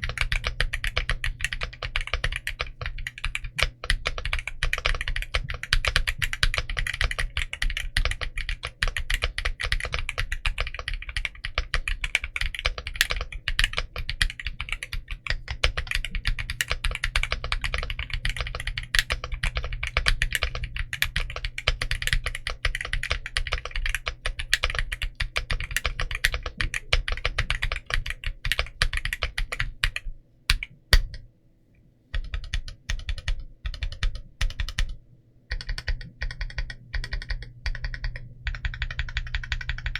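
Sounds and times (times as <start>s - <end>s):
typing on a mechanical keyboard: 0.0s - 31.3s, 32.2s - 39.9s.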